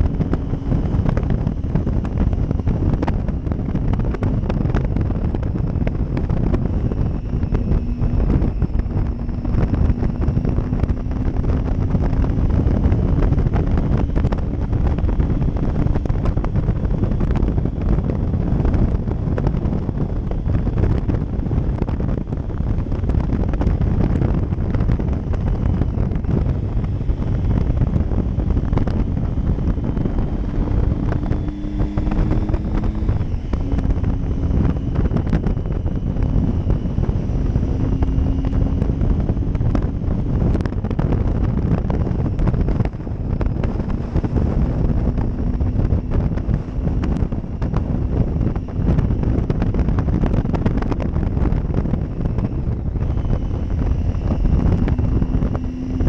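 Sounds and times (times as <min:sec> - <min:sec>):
motorcycle engine at road speed: 0:00.0 - 0:56.0
wind buffeting microphone: 0:00.0 - 0:56.0.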